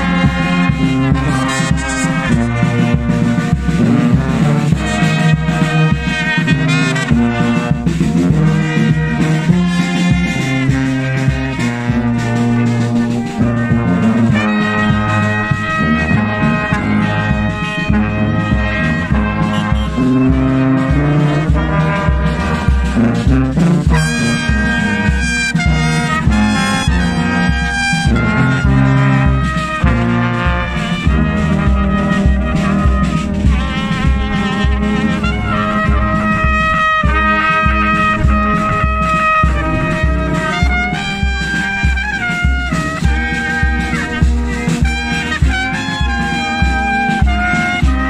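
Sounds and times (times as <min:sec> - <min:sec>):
bass drum beat: 0:00.0 - 0:48.0
brass band playing: 0:00.0 - 0:48.0.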